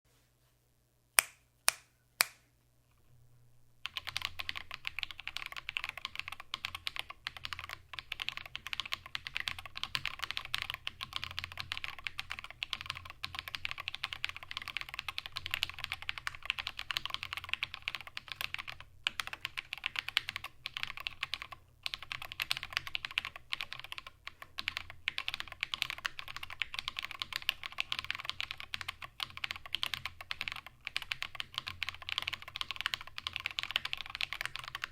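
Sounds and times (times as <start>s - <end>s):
fast mechanical keyboard typing: 3.9s - 34.9s
sharp keyboard clicks: 3.9s - 34.9s.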